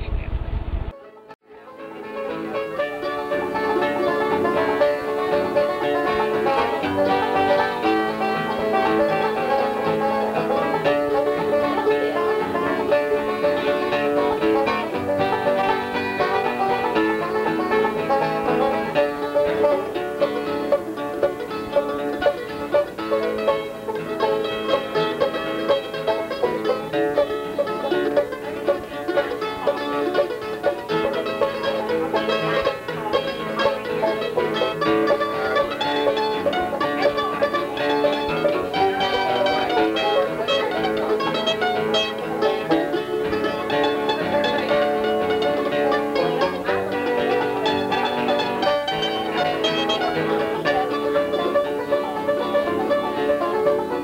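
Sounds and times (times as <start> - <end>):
bluegrass tune on plucked strings: 0.9 - 54.0.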